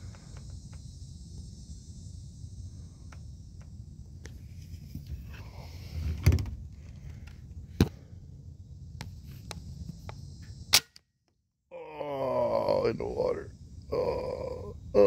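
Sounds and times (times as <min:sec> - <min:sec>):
low steady rumble: 0:00.0 - 0:10.8, 0:11.8 - 0:15.0.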